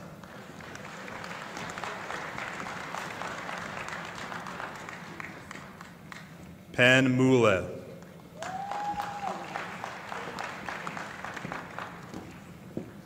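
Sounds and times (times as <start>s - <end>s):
audience applause: 0.0s - 6.3s, 8.4s - 12.8s.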